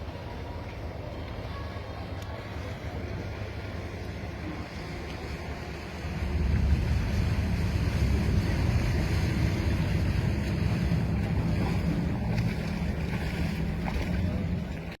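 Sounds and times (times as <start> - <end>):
low engine rumble: 0.0 - 15.0
sea water washing: 0.0 - 15.0
wind buffeting microphone: 2.3 - 15.0.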